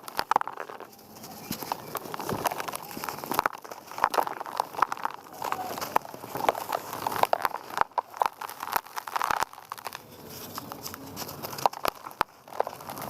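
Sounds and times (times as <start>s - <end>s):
dry mud crumbling and crunching: 0.0s - 13.0s.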